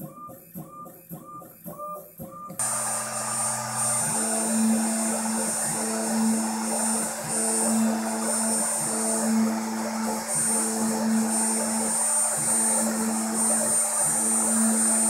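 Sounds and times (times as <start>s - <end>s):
spindle high whine and hiss: 2.6s - 15.0s
stepper motor whines: 2.6s - 15.0s.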